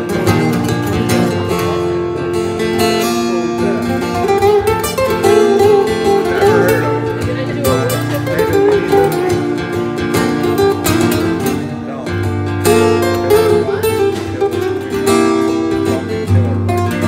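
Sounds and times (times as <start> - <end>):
picked guitar lead with bends: 0.0 - 17.0
strummed acoustic guitar chords: 0.0 - 17.0.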